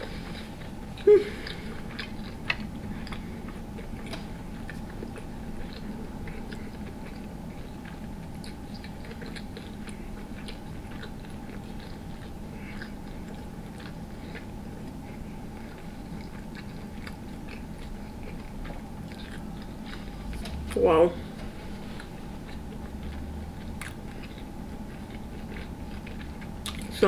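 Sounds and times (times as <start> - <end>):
chewing with wet mouth clicks: 0.2 - 20.7, 21.4 - 27.0.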